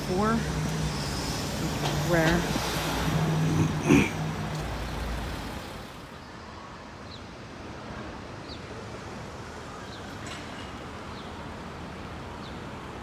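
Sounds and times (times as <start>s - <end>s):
traffic noise: 0.0s - 13.0s
wind: 0.0s - 13.0s.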